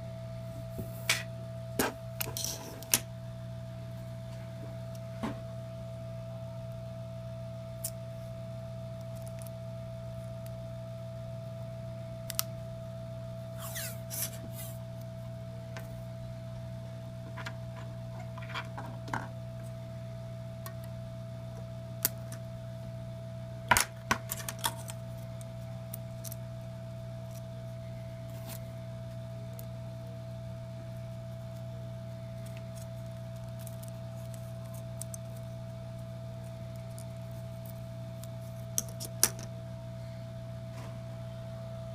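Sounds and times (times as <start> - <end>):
faint steady whine: 0.0 - 41.9
low electrical hum: 0.0 - 41.9.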